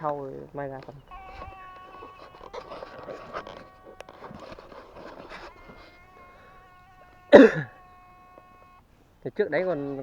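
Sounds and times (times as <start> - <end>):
electrical inverter whine: 0.0 - 10.0.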